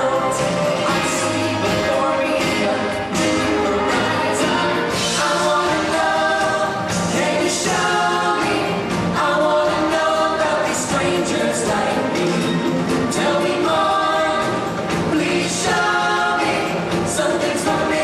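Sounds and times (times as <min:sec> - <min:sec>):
group of voices singing: 0:00.0 - 0:18.0
stage show band music: 0:00.0 - 0:18.0.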